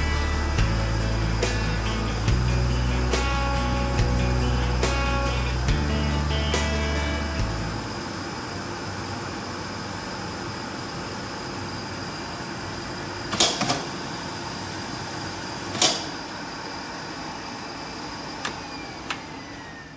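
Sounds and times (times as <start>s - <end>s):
machinery humming: 0.0s - 19.9s.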